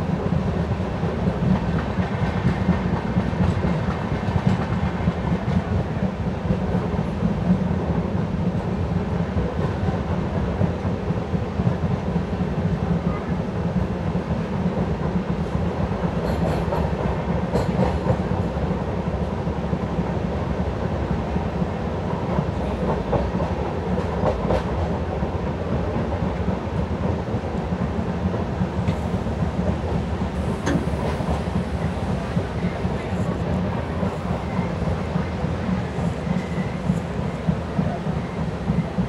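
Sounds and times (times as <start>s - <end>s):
train wheels rumbling on track: 0.0s - 39.0s.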